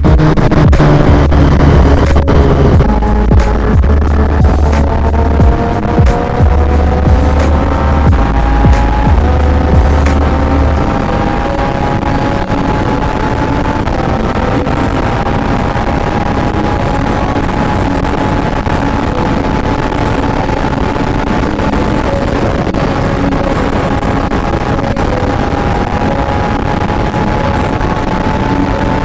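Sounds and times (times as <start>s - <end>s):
motorcycle engine high-rpm drone: 0.0s - 29.0s
rushing wind: 0.0s - 29.0s.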